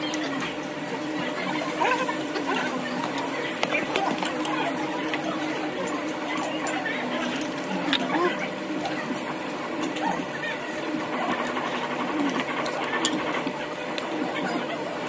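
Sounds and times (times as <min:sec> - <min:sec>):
faint voices: 0:00.0 - 0:15.0
mechanical hum: 0:00.0 - 0:15.0.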